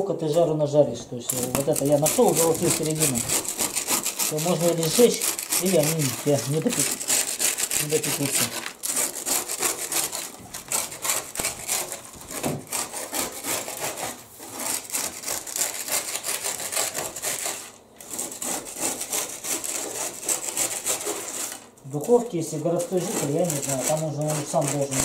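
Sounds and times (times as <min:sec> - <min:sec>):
dry fish scraped on metal tray: 0:01.3 - 0:25.0.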